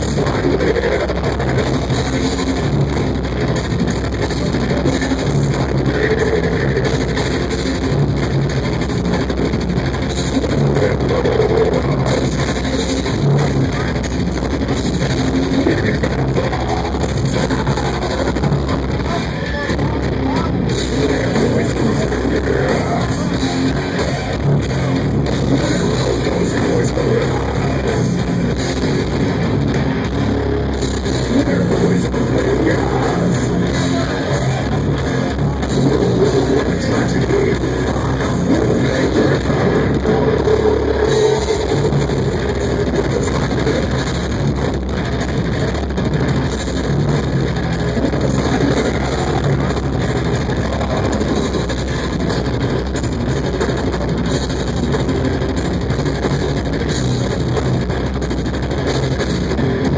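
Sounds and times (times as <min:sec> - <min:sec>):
metal band playing live: 0:00.0 - 0:59.9.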